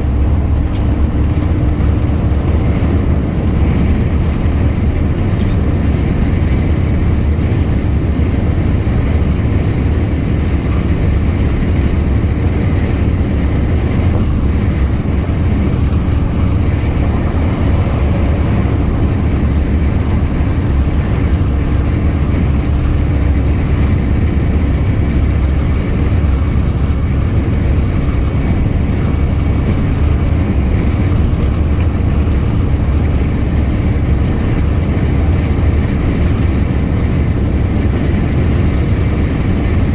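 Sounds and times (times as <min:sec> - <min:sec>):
heavy truck engine drone: 0:00.0 - 0:39.9
road noise: 0:00.0 - 0:39.9.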